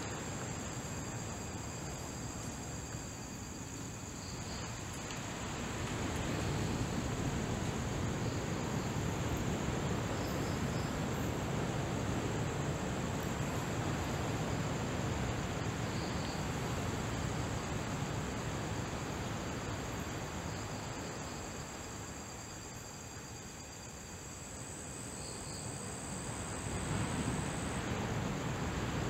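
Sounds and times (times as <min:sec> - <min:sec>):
broad background hiss: 0:00.0 - 0:29.0
high-pitched insect chorus: 0:00.0 - 0:29.0.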